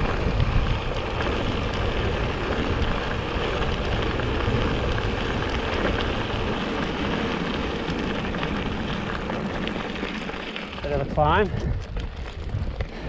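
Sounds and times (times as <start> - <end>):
bike tyres crunching on gravel: 0.0 - 13.0
small stones ticking: 0.0 - 13.0
wind rumble on microphone: 0.0 - 13.0.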